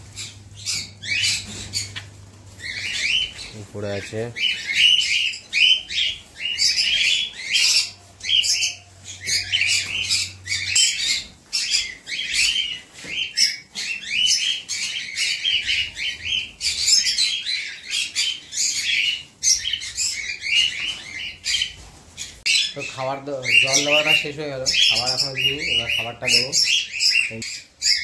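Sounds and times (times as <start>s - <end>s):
birds chirping shrilly: 0.0s - 28.0s.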